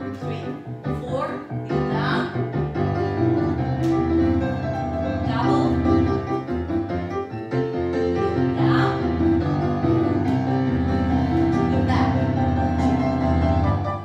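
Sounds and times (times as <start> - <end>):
solo piano: 0.0 - 14.0.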